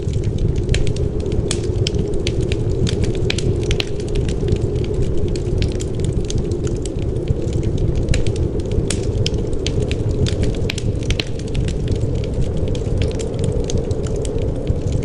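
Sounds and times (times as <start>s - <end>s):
wind rushing: 0.0s - 15.0s
wood fire crackling: 0.0s - 15.0s.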